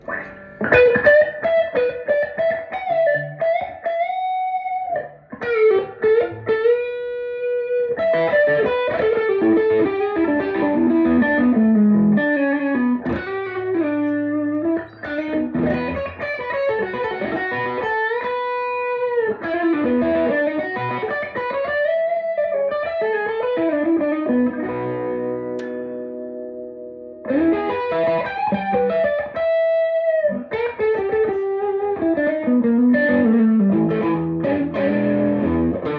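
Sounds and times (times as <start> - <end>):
electric guitar lead lines: 0.0 - 35.9.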